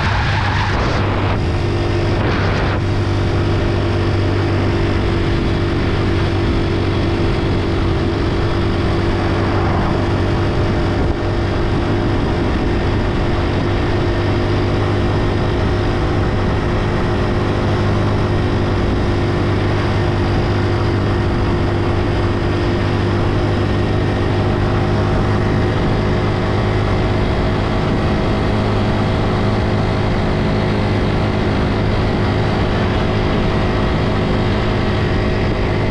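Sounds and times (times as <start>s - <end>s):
motorcycle engine droning: 0.0s - 35.9s
road noise: 0.0s - 35.9s.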